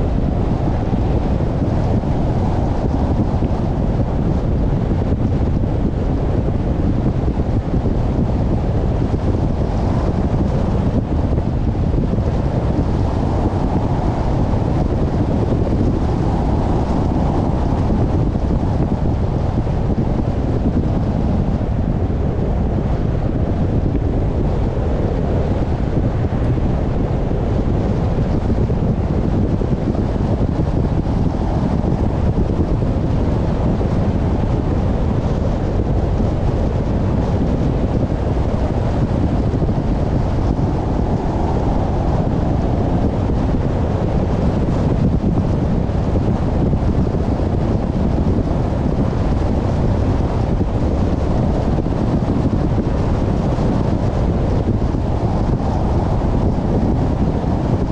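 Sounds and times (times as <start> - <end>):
car road noise rumble: 0.0 - 57.9
wind buffeting microphone: 0.0 - 57.9.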